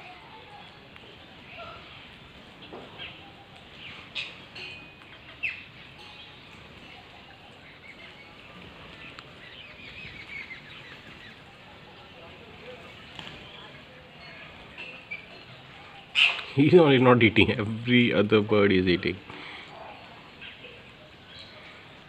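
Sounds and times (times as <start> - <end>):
birds chirping and calling: 0.0 - 22.0.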